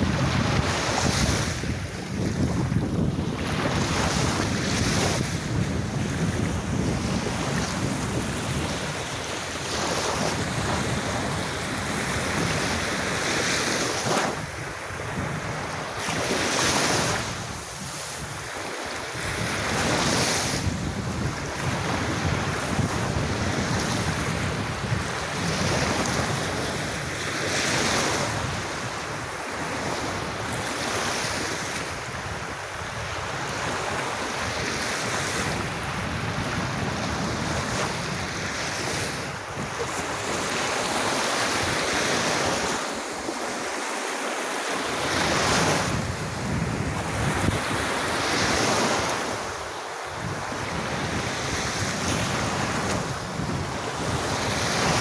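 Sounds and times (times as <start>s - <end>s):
wind buffeting microphone: 0.0s - 43.7s, 44.9s - 55.0s
sea waves breaking on beach: 0.0s - 55.0s.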